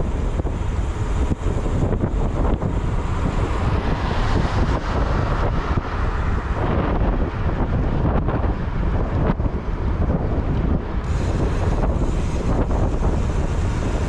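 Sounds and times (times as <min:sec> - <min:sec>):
vehicle and road rumble: 0:00.0 - 0:14.0
wind buffeting microphone: 0:00.0 - 0:14.0.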